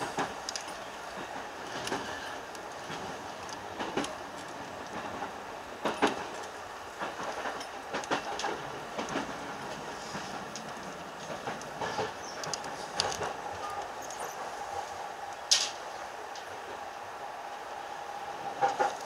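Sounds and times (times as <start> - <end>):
wheels clacking over rail joints: 0.0 - 17.0, 18.3 - 19.0
train rolling on rails: 0.0 - 19.0.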